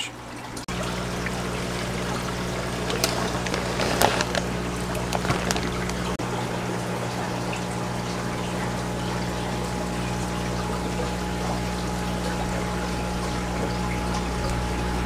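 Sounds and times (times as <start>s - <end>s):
low electrical hum: 0.0s - 15.0s
water trickling and splashing: 0.0s - 15.0s.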